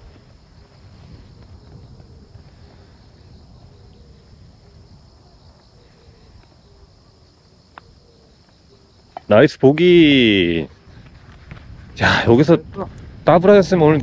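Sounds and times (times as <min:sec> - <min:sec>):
insects chirping: 0:00.0 - 0:14.0
low wind rumble: 0:00.0 - 0:14.0.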